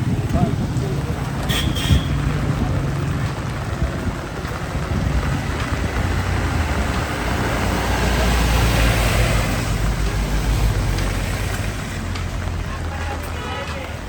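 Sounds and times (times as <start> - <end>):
road noise hiss: 0.0 - 14.0
vehicle engine humming: 0.0 - 14.0.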